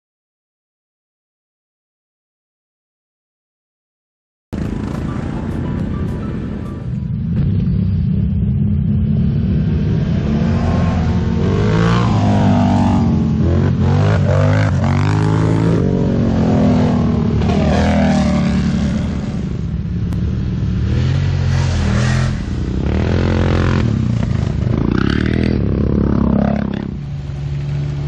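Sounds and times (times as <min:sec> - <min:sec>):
low engine drone: 0:04.6 - 0:28.0
quad engines passing by: 0:04.6 - 0:28.0.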